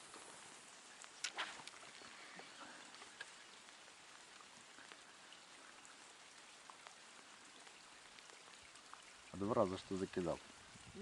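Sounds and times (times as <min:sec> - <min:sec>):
light rain hiss: 0:00.0 - 0:11.0
single raindrops ticking: 0:00.0 - 0:11.0.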